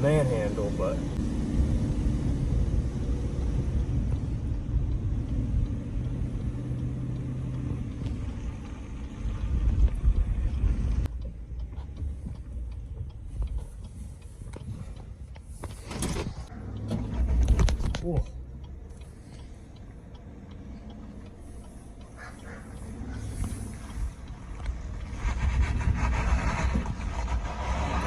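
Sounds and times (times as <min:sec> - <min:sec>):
pickup truck engine rumble: 0:00.0 - 0:28.0
road noise: 0:00.0 - 0:28.0.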